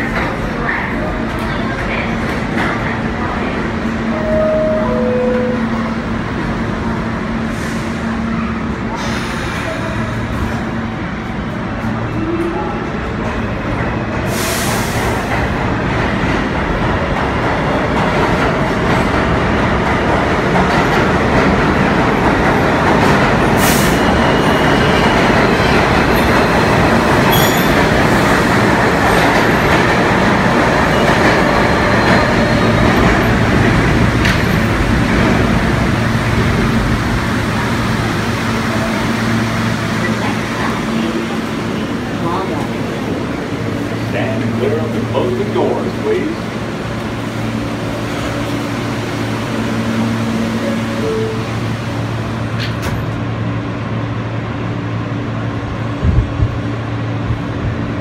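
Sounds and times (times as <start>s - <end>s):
subway train rumbling and braking: 0.0s - 58.0s
train low hum: 0.0s - 58.0s.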